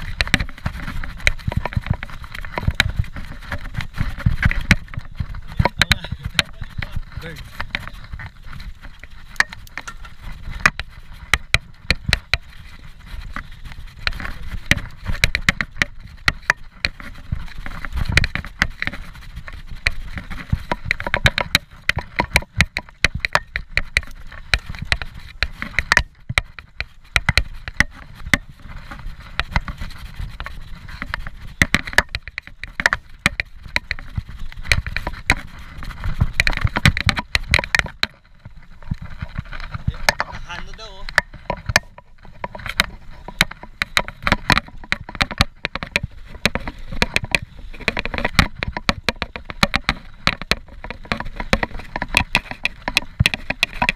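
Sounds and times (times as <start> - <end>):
bike rattling and knocking: 0.0 - 53.9
tyres rumbling on dirt: 0.0 - 53.9.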